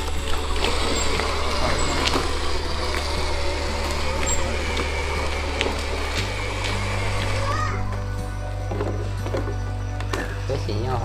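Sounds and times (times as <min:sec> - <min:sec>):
electric drill motor whirring: 0:00.0 - 0:10.4
wheels rolling over asphalt: 0:00.0 - 0:11.0.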